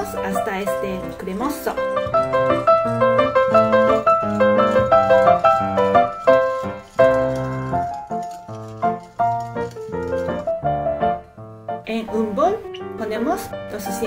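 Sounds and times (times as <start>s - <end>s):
lively piano music: 0.0s - 14.0s.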